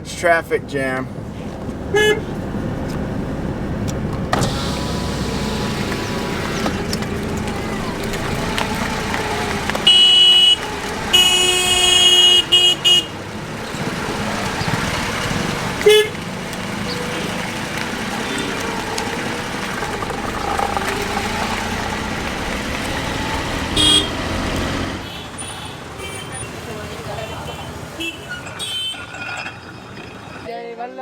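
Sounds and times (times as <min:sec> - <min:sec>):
engines running: 0:00.0 - 0:30.5
vehicle horns honking: 0:01.8 - 0:02.5, 0:04.3 - 0:30.5.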